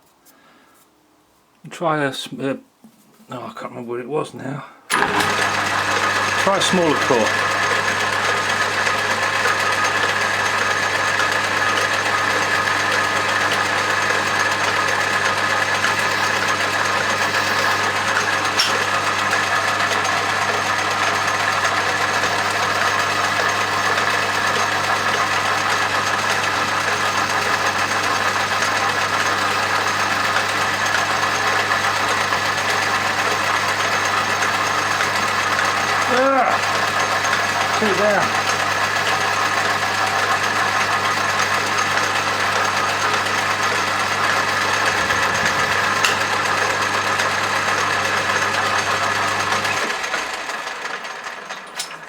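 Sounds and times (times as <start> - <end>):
metal lathe humming: 4.9 - 52.0.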